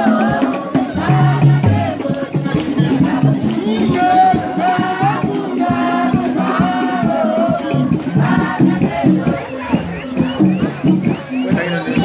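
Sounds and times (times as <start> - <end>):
choir singing: 0.0 - 12.0
rhythmic beat with rattles: 0.0 - 12.0.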